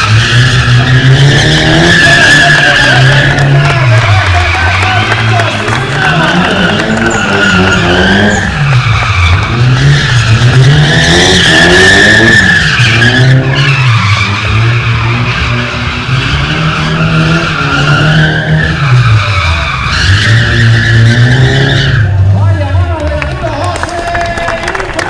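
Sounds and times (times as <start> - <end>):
tyres squealing: 0.0 - 22.2
car engine revving: 0.0 - 25.0.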